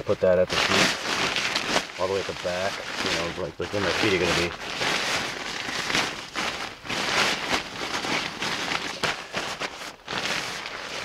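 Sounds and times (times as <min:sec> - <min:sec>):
tarp rustling and crinkling: 0:00.0 - 0:11.0.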